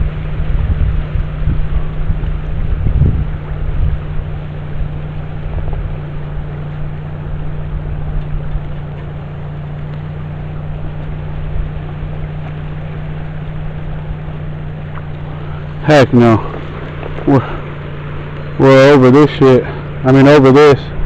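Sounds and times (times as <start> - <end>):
even rushing noise: 0.0 - 21.0
low motor hum: 0.0 - 21.0.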